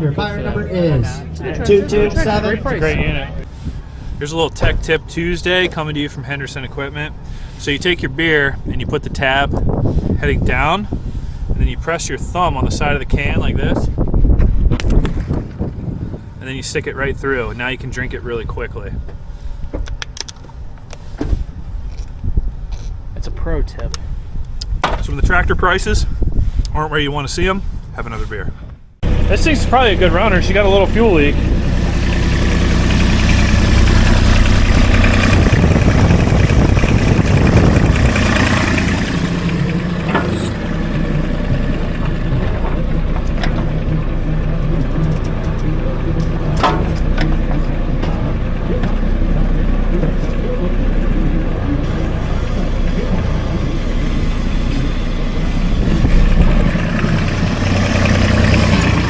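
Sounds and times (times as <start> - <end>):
tractor engine running: 0.0 - 21.2, 29.0 - 59.0.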